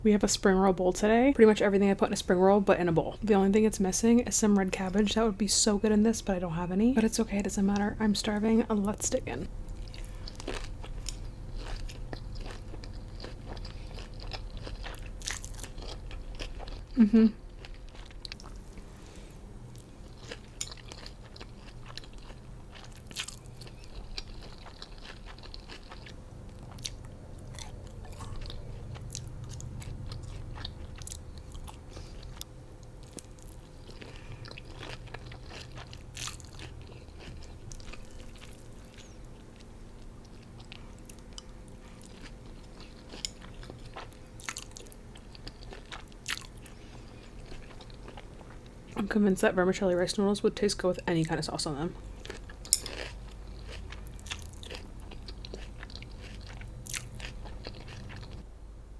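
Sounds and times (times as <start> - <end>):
chewing and crunching food: 7.6 - 49.1, 51.2 - 58.5.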